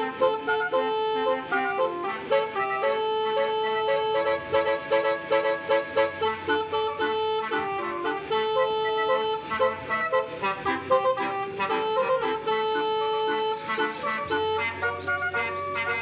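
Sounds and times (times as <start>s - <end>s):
multi-tone truck horn melody: 0.0s - 16.0s.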